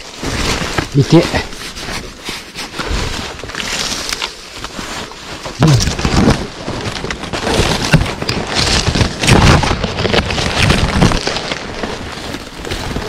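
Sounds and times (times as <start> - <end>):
rustling and crunching of brush: 0.0 - 13.0.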